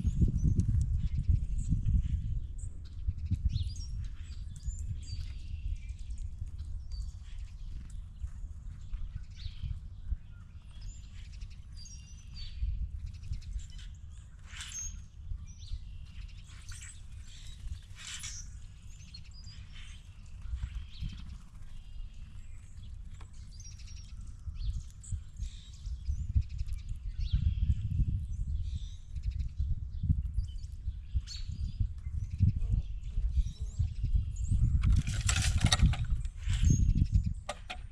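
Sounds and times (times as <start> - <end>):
birds chirping and calling: 0.1 - 29.2, 30.3 - 37.9.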